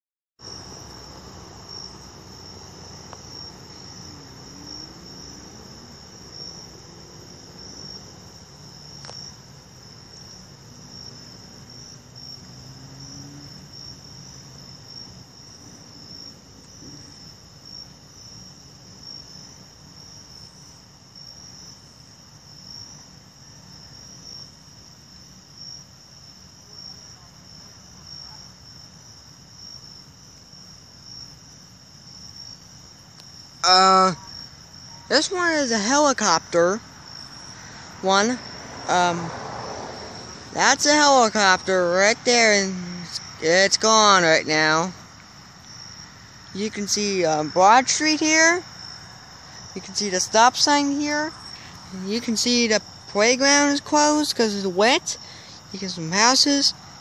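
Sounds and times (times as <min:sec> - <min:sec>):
crickets trilling: 0:00.4 - 0:57.0.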